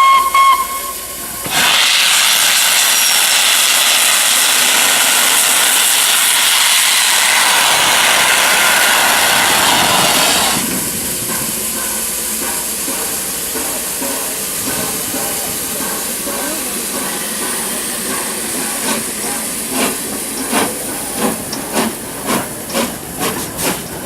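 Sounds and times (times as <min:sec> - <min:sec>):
train noise: 0:00.0 - 0:24.0
steam hissing from locomotive: 0:00.1 - 0:24.0.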